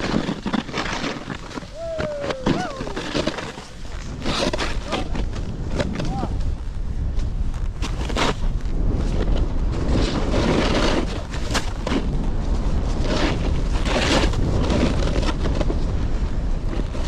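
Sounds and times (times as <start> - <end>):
snowboard edge scraping snow: 0.0 - 17.0
wind rumbling on microphone: 0.0 - 17.0.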